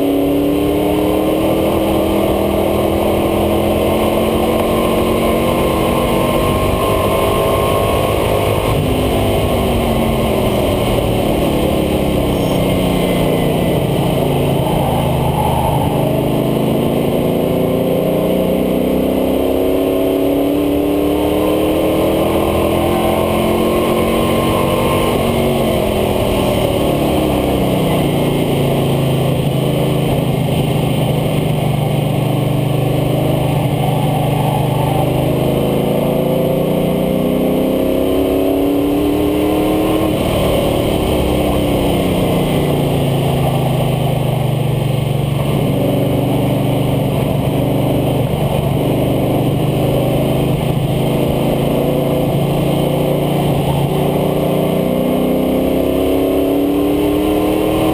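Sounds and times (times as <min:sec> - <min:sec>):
truck engine revving at speed: 0:00.0 - 0:57.9
wind and road noise: 0:00.0 - 0:57.9.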